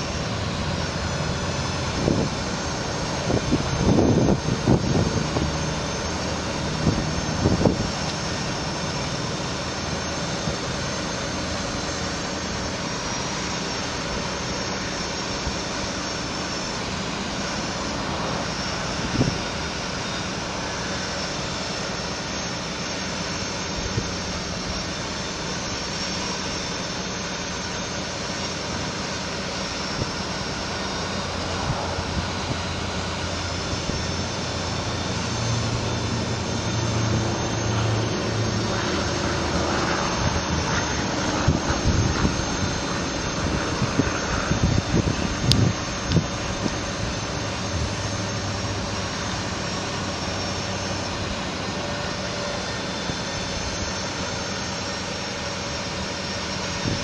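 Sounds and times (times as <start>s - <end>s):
low hum: 0.0s - 57.0s
truck engine and hydraulic drone: 0.0s - 57.0s.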